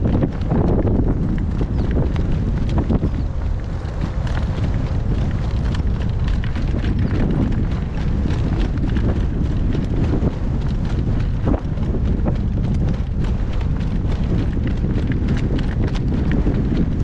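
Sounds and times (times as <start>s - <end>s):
horse hooves striking: 0.0s - 17.0s
wind buffeting microphone: 0.0s - 17.0s.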